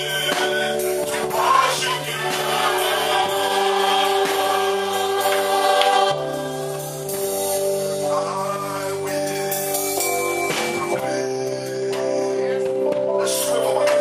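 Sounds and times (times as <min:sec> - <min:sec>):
sustained instrumental chords: 0:00.0 - 0:14.0
voices singing gospel song: 0:00.0 - 0:14.0.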